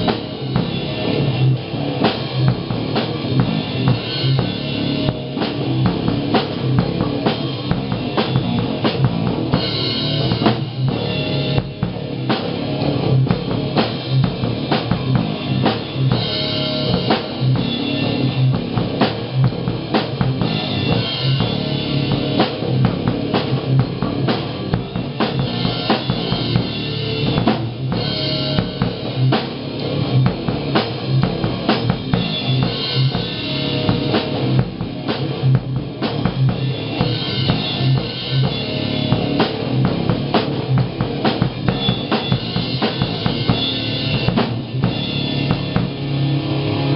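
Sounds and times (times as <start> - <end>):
drum kit beat: 0.0 - 46.9
electric guitar rock riffs: 0.0 - 46.9.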